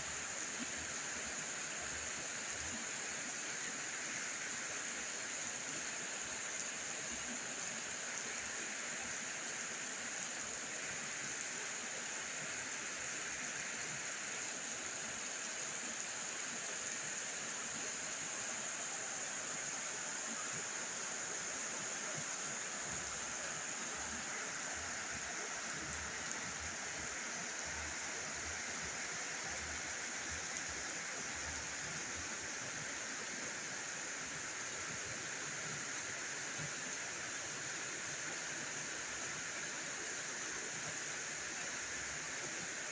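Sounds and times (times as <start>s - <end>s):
very heavy rain: 0.0s - 42.9s.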